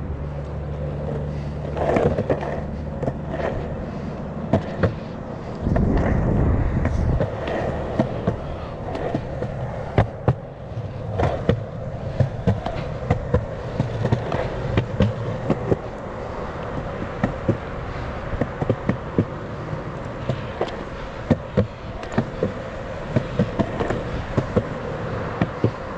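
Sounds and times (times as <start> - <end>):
skateboard clacking over joints: 0.0 - 25.9
skateboard wheels rolling on concrete: 0.0 - 25.9.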